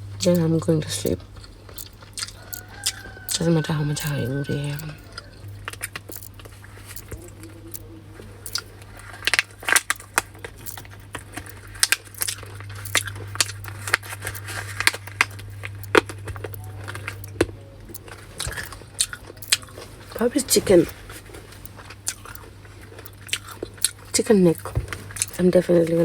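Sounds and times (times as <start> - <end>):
low hum: 0.0 - 26.0
plastic snack packet crinkling: 0.2 - 26.0.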